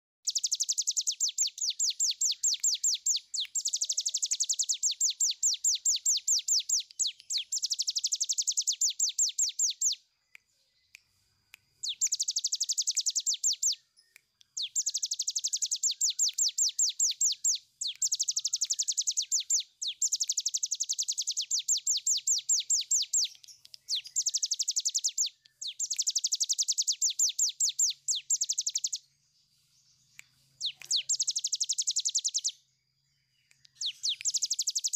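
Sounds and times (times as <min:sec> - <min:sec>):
bird singing rattling trills: 0:00.3 - 0:10.0, 0:11.8 - 0:29.0, 0:29.9 - 0:32.6, 0:33.3 - 0:34.9.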